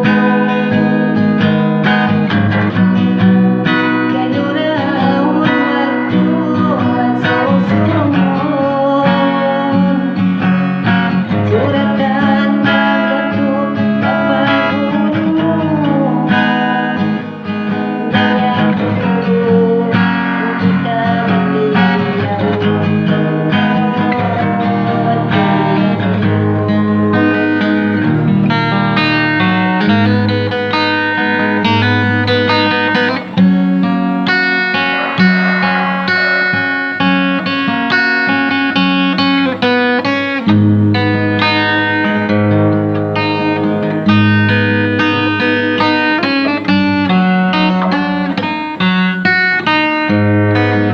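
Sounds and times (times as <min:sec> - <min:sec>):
guitar plucked and strummed: 0:00.0 - 0:50.9.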